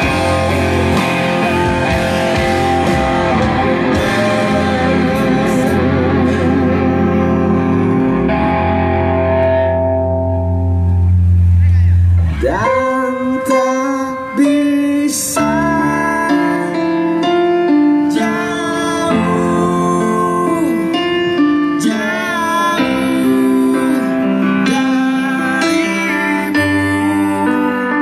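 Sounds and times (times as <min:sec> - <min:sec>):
person singing: 0:00.0 - 0:10.0, 0:11.7 - 0:28.0
keyboard accompaniment: 0:00.0 - 0:28.0.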